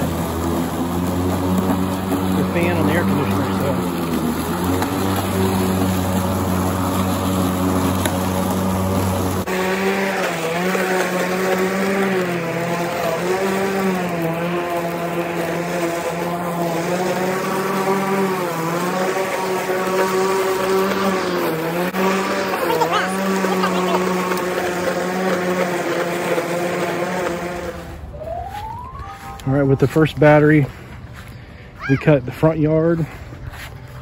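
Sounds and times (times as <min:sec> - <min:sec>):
electric lawn mower cutting grass: 0:00.0 - 0:31.3.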